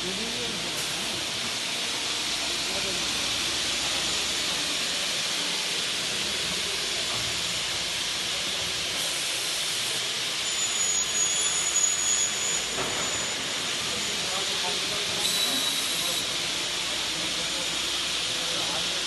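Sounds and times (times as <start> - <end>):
high-pitched machine whine: 0.0 - 19.0
machine running with steady hiss: 0.0 - 19.0.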